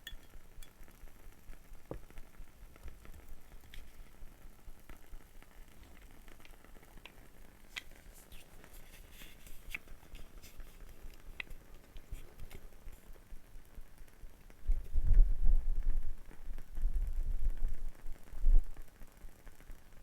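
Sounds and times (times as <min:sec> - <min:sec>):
candle wick crackling and popping: 0:00.0 - 0:20.0.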